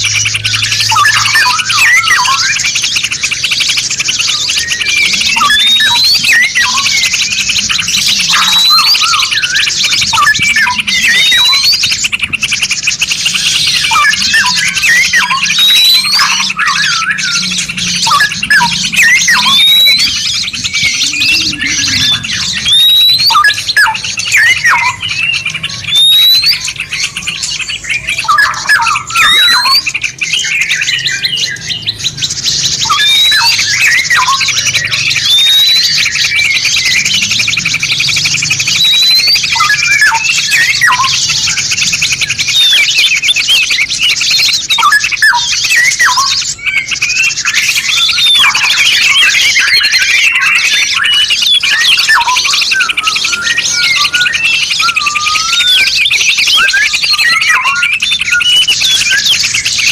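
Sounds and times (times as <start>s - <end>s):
fast bird trill: 0.0s - 59.9s
rising bird whistle: 0.0s - 59.9s
songbirds twittering: 0.0s - 59.9s.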